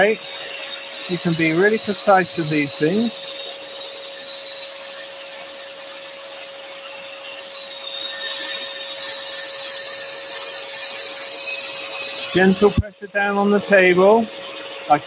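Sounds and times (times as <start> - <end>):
extractor hiss and whine: 0.0 - 15.0
scroll saw cutting wood: 0.0 - 15.0.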